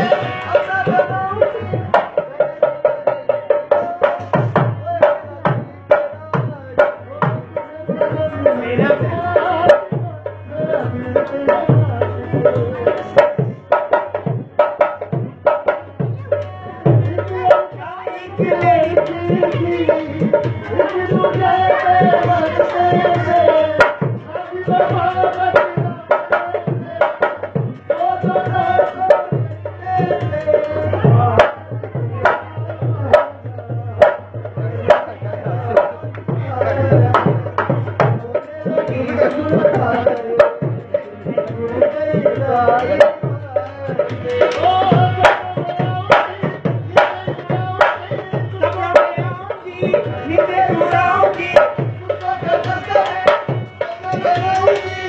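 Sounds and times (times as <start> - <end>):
dhol drum dance rhythm: 0.0 - 55.0.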